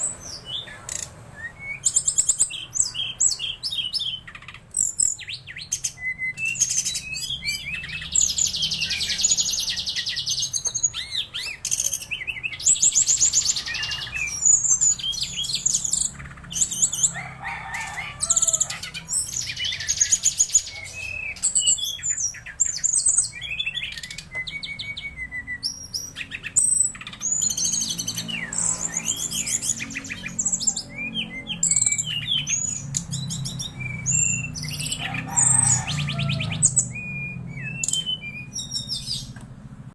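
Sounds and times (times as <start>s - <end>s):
bird chirping and whistling: 0.0s - 39.4s.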